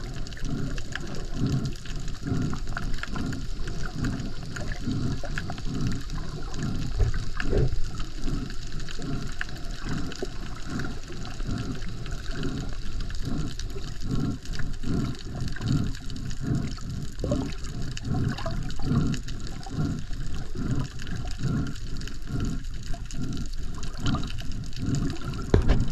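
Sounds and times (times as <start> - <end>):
muffled underwater noise: 0.0 - 25.9.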